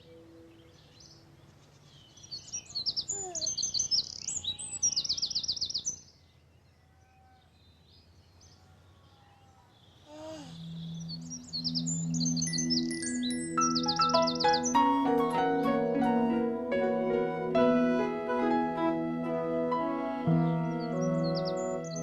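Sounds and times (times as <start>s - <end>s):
bird chirping and trilling: 0.0s - 16.6s, 20.2s - 22.0s.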